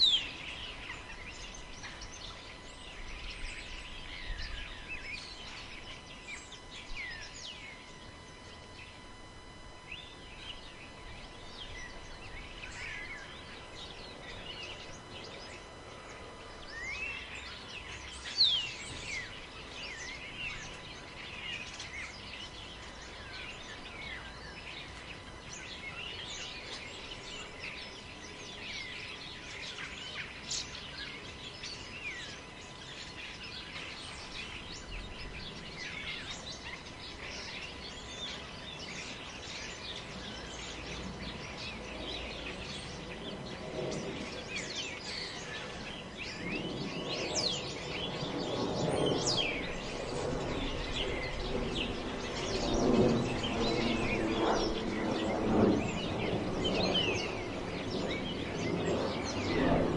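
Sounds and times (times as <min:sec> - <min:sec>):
birds chirping and whistling: 0:00.0 - 0:59.9.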